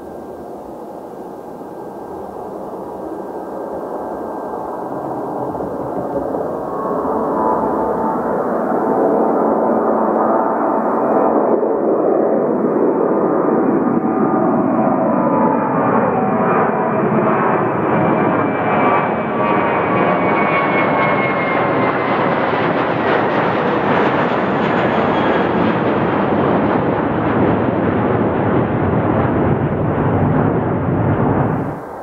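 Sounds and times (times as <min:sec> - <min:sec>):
jet airliner roar: 0:00.0 - 0:32.0.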